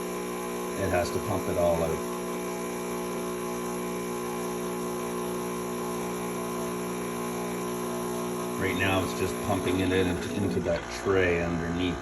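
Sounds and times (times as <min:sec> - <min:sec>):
coffee machine pump humming: 0:00.0 - 0:12.0.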